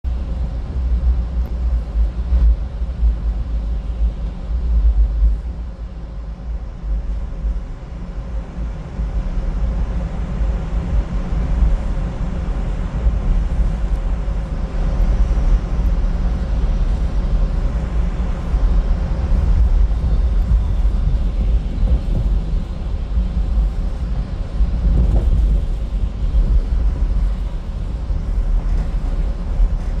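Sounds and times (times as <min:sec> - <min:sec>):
car road noise rumble: 0:00.0 - 0:30.0.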